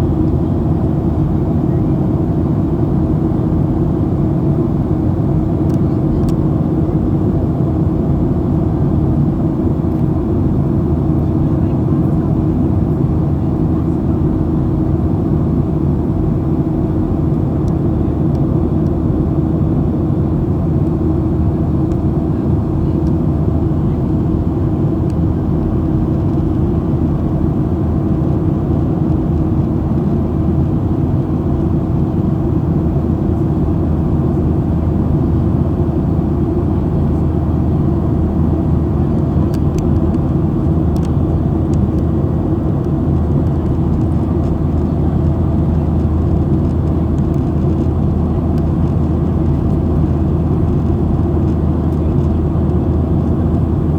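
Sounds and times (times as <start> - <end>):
airplane cabin engine drone: 0.0 - 53.9.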